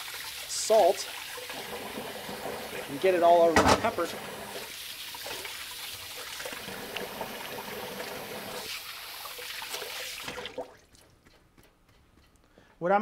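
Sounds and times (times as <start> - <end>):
faucet water splashing over hands: 0.0 - 11.0.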